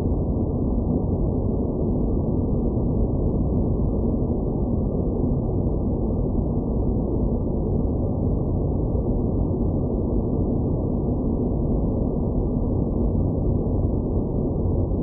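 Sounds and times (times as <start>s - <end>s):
faint steady hum tones: 0.0s - 15.0s.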